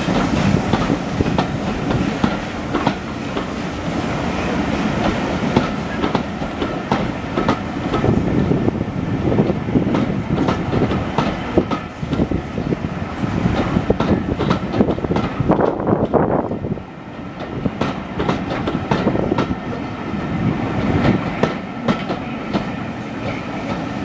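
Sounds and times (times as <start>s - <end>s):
train wheels clicking over rail joints: 0.0s - 3.8s, 4.7s - 8.5s, 9.4s - 12.7s, 13.4s - 16.4s, 17.2s - 19.8s, 20.7s - 24.0s
steady rumble of carriages: 0.0s - 24.0s.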